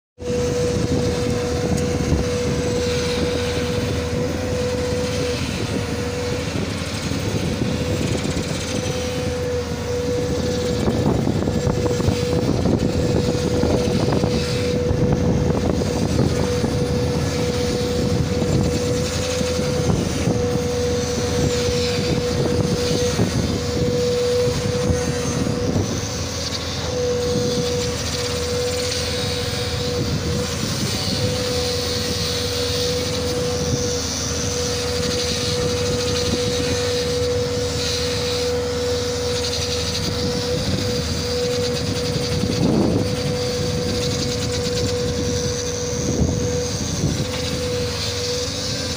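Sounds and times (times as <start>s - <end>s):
constant whine: 0.2s - 48.9s
excavator engine drone: 0.2s - 48.9s
generator running: 0.2s - 48.9s.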